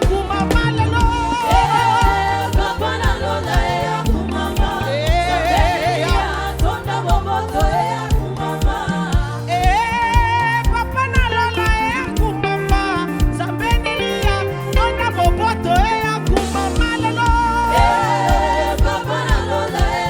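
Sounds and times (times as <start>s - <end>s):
backing vocals: 0.0s - 20.0s
band with bass and drums: 0.0s - 20.0s
lead voice singing: 0.0s - 20.0s.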